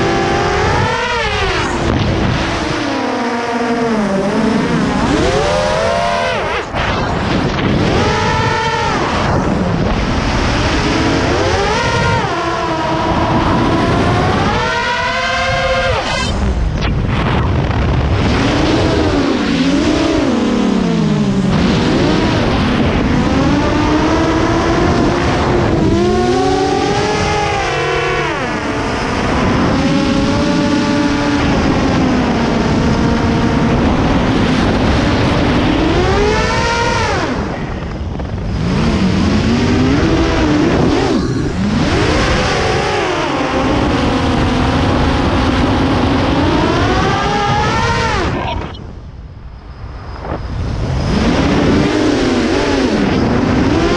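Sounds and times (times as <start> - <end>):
drone motors whining: 0.0 - 53.9.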